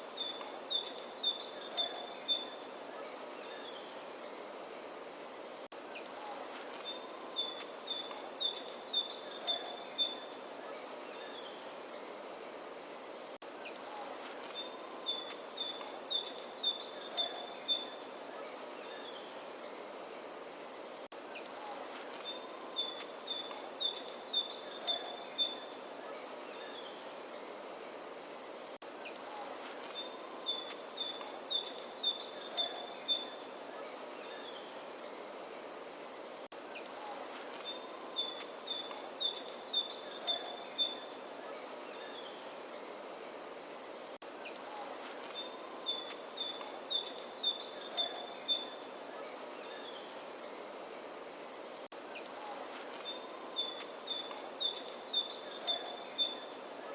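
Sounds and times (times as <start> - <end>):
faint outdoor hiss: 0.0 - 56.9
songbird singing: 0.0 - 56.9.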